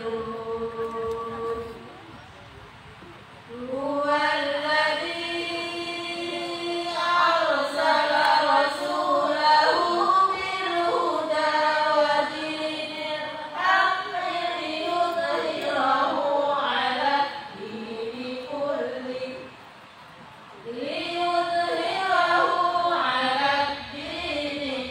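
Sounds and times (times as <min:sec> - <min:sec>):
person chanting a recitation: 0:00.0 - 0:02.0, 0:03.5 - 0:19.5, 0:20.6 - 0:24.9.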